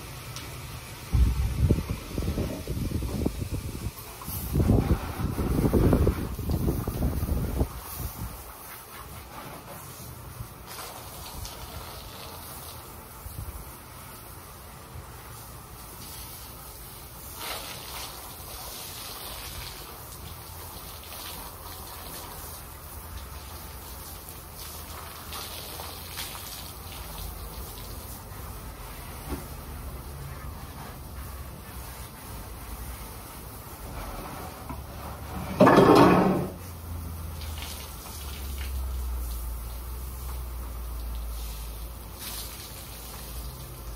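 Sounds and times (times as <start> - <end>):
pressure washer spraying glass: 0.0 - 43.9.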